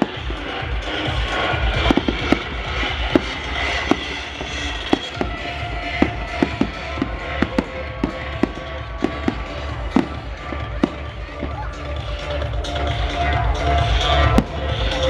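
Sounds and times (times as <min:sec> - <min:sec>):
firework bangs and cracks: 0:00.0 - 0:12.1.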